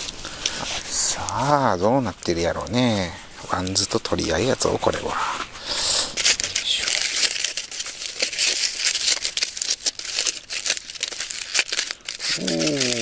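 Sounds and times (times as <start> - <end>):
aluminium foil crinkling and tearing: 0.0 - 13.0.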